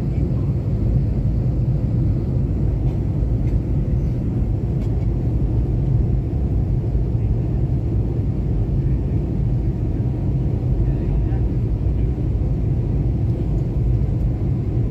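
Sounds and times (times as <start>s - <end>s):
airliner cabin rumble: 0.0s - 14.9s.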